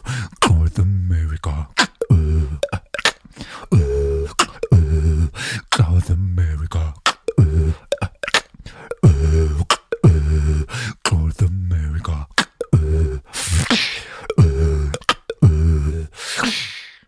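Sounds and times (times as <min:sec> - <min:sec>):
beatboxing into a microphone: 0:00.0 - 0:17.0.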